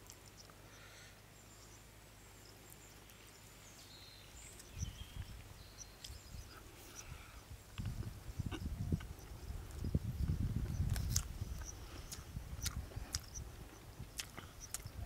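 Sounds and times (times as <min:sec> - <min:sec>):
insects: 0:00.0 - 0:15.0
small birds chirping: 0:00.0 - 0:15.0.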